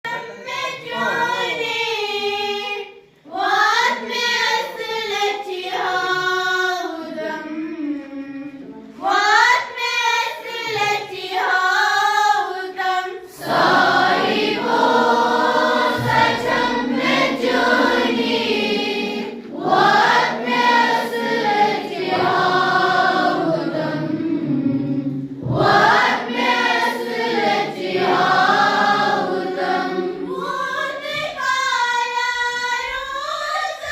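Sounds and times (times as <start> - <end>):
group singing in unison: 0.2 - 33.9.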